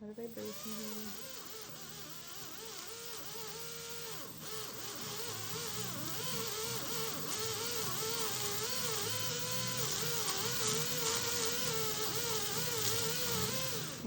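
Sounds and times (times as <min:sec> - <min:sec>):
dental drill whirring: 0:00.0 - 0:14.0.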